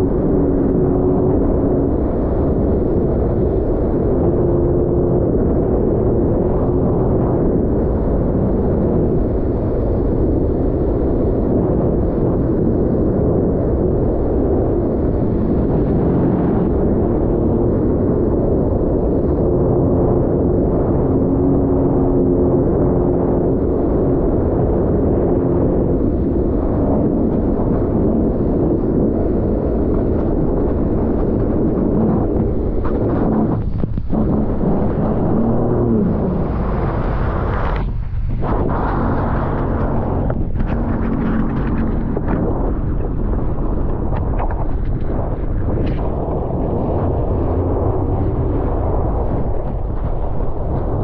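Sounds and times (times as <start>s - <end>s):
rush of wind and water: 0.0s - 51.0s
watercraft engine drone: 0.0s - 51.0s.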